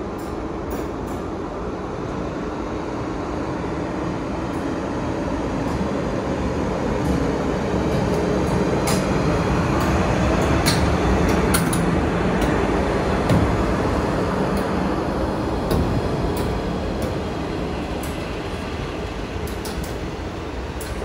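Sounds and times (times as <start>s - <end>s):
train rumbling along platform: 0.0s - 21.0s.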